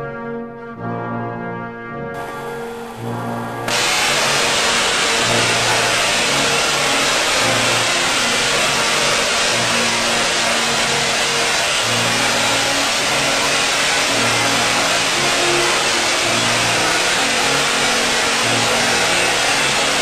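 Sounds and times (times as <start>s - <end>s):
tesla coil crackling sparks: 2.2s - 20.0s.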